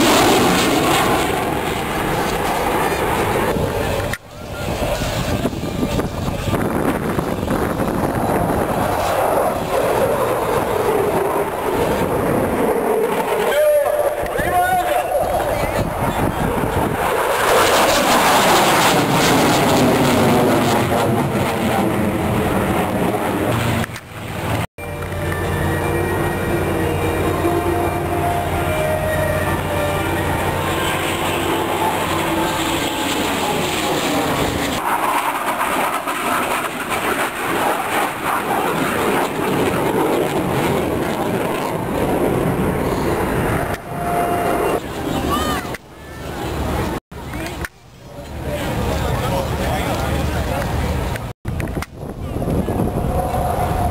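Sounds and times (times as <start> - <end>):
airplane flying past: 0.0 - 51.3, 52.3 - 53.9
aircraft engine rumble overhead: 0.0 - 53.9.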